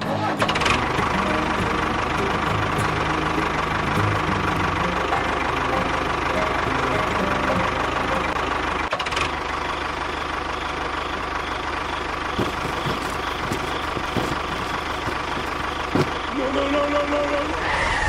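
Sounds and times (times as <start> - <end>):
small engine running steadily: 0.2 - 17.6.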